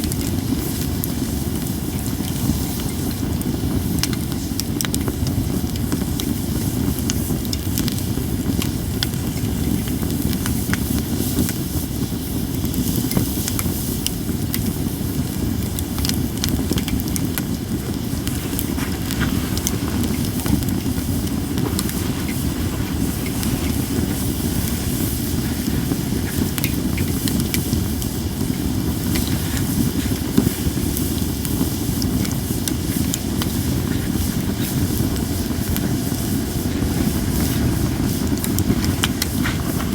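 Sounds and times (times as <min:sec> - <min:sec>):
campfire crackling and popping: 0:00.0 - 0:39.9
hiss from burning wood: 0:00.0 - 0:39.9
low rumble of fire: 0:00.0 - 0:39.9.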